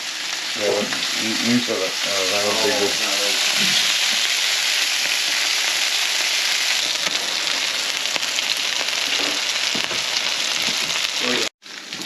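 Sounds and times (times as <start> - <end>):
meat sizzling and crackling: 0.0 - 12.0.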